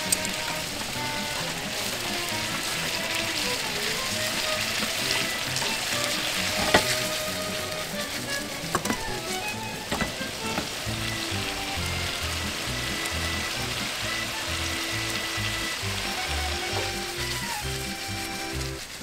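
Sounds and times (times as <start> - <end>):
background music with low notes: 0.0 - 19.0
pasta boiling and sizzling in pan: 0.0 - 19.0.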